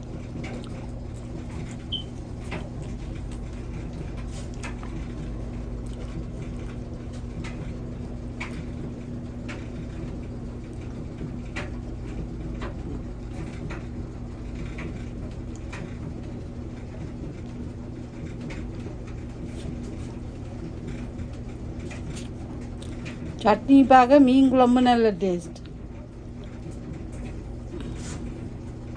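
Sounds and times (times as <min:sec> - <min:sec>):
steady low hum: 0:00.0 - 0:16.5, 0:19.0 - 0:28.9.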